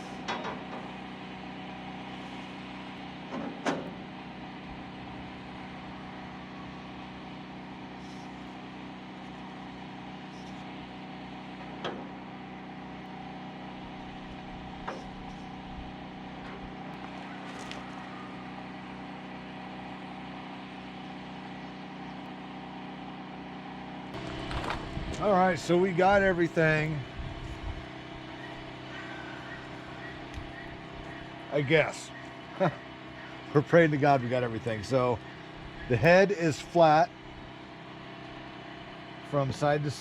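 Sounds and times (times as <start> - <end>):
tractor engine idling: 0.0 - 40.0.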